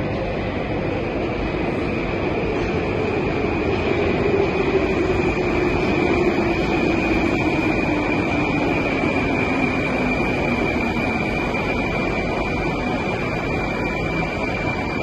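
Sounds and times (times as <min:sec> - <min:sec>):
metro train pulling in: 0:00.0 - 0:15.0
train high whine: 0:00.0 - 0:15.0
train low hum: 0:00.0 - 0:15.0.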